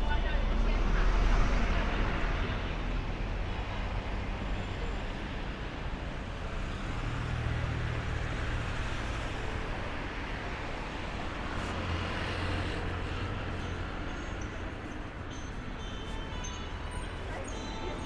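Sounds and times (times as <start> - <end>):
road noise: 0.0 - 18.0
vehicles going by: 0.0 - 18.0.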